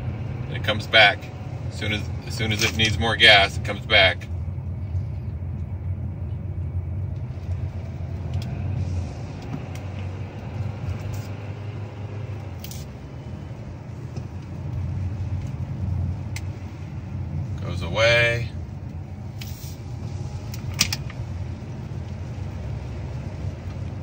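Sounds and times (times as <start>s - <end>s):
car engine drone inside cabin: 0.0s - 24.0s.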